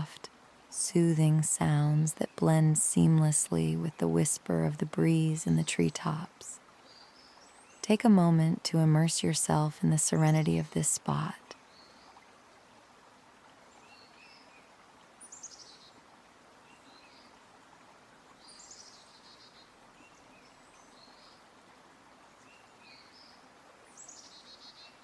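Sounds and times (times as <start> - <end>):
soft even hiss: 0.0 - 25.0.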